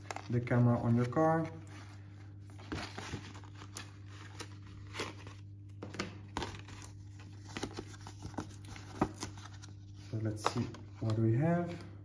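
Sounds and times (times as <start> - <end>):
paper and plastic film rustling: 0.0 - 11.4.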